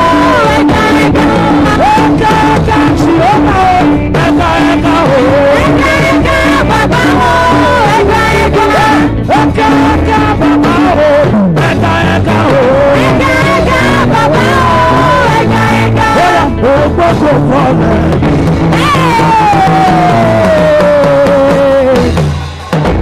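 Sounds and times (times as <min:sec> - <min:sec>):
person singing: 0:00.0 - 0:22.3
gospel band playing: 0:00.0 - 0:23.0.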